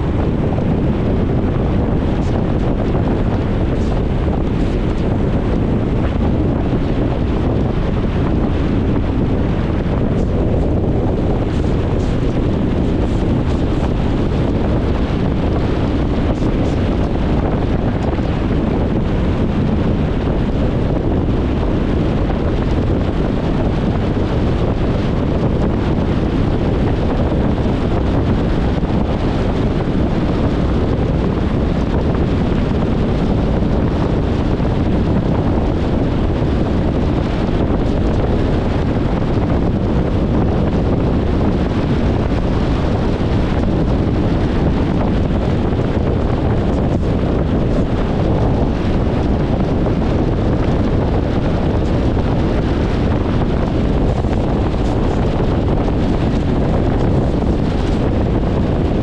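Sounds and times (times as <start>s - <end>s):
car tyre and wind rumble: 0.0s - 59.0s.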